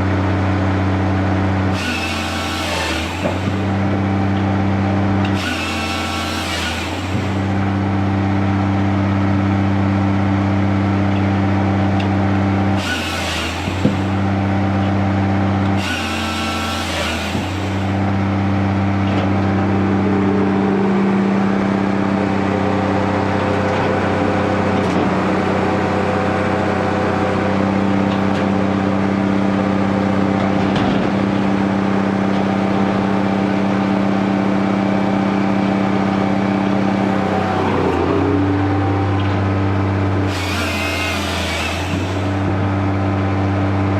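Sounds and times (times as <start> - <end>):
firewood processing machine running: 0.0 - 43.9
wood going through machine: 0.9 - 43.9.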